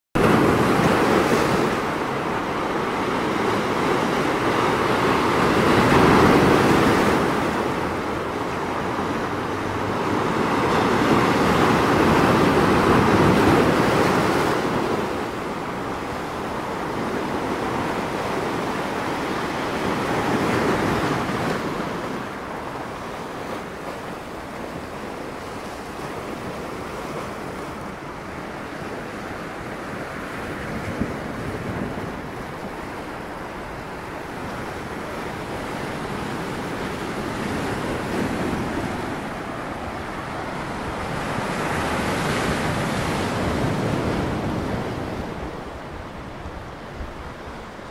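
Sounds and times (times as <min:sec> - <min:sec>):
sea waves breaking on rocky shore: 0:00.2 - 0:47.9.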